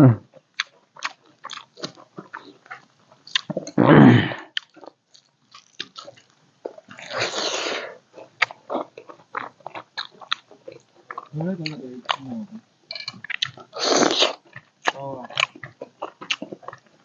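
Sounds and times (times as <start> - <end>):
person chewing: 0.3 - 12.4, 13.0 - 17.0.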